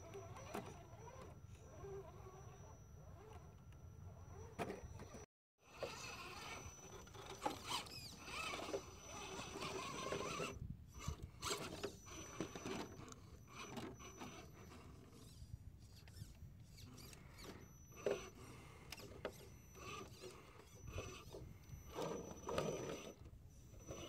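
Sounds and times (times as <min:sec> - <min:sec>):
small electric motor whining: 0:00.0 - 0:24.0.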